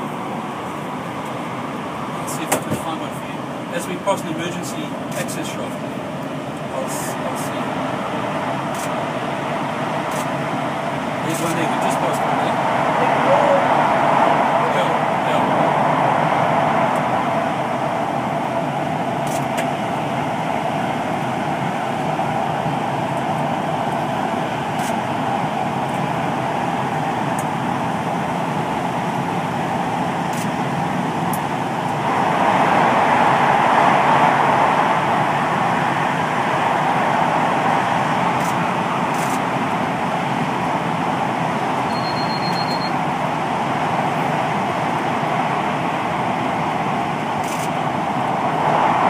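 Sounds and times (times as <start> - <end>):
train wheels on rails in tunnel: 0.0 - 49.0.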